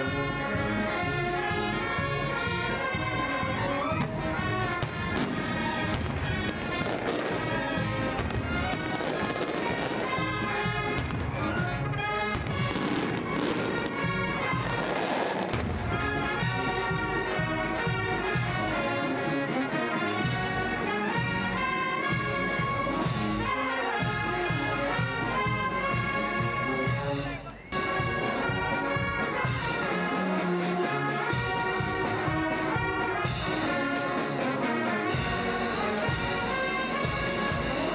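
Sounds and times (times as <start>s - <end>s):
brass marching band playing: 0.0s - 37.9s.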